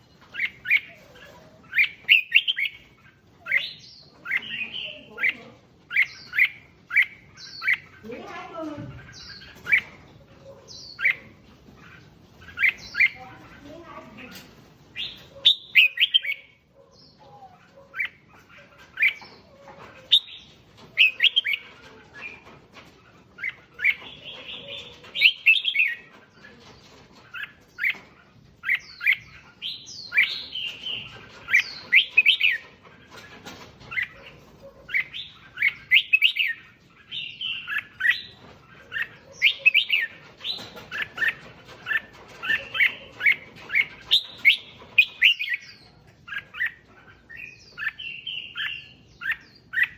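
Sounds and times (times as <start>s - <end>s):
bird chirping song: 0.0s - 49.9s.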